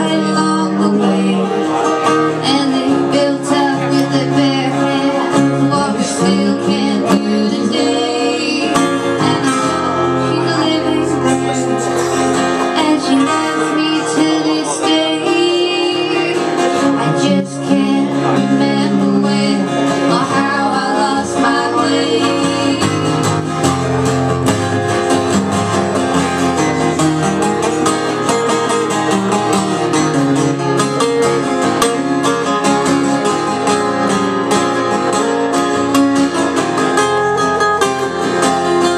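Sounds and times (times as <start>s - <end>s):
acoustic guitar picking: 0.0s - 38.9s.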